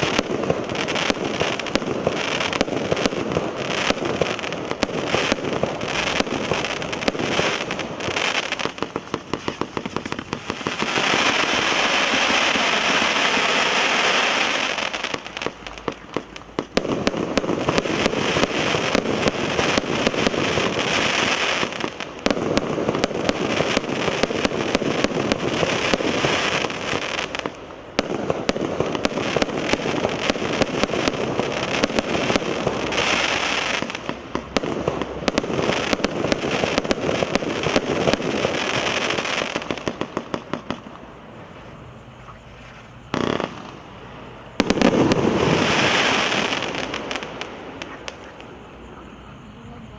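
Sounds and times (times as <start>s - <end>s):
fireworks popping and crackling: 0.0s - 48.8s.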